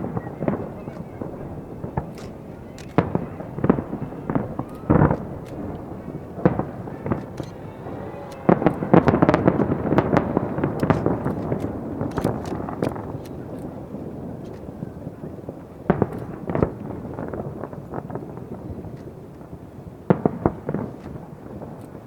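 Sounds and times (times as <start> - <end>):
fireworks booming: 0.0 - 22.0
fireworks crackle: 0.0 - 22.0.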